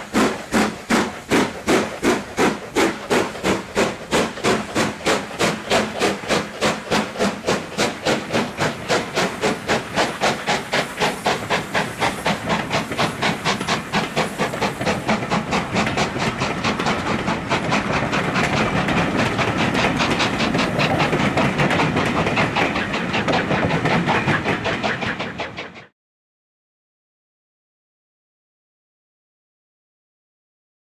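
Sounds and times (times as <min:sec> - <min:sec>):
rush of steam and rolling coaches: 0:00.0 - 0:25.9
steam locomotive exhaust beats: 0:00.0 - 0:25.9.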